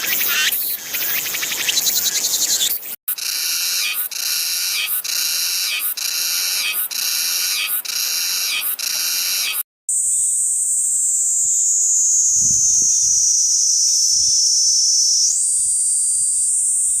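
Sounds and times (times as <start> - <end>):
cicada continuous high whine: 0.0 - 17.0
cicada pulsing song: 0.0 - 17.0.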